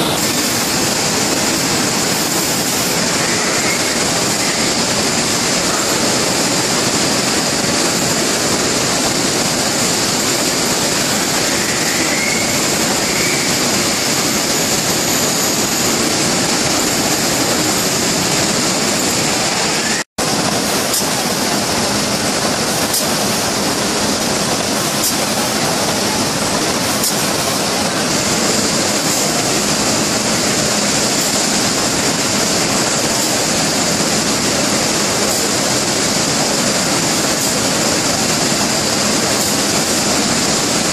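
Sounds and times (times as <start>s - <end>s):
packaging machinery hissing: 0.0s - 40.9s.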